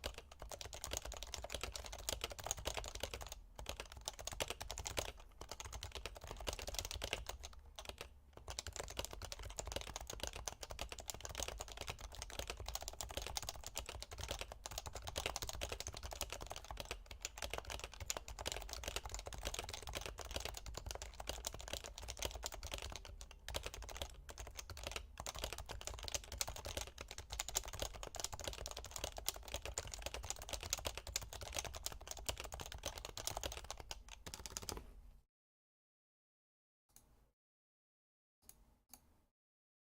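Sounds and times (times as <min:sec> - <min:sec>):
keyboard typing: 0:00.0 - 0:34.9.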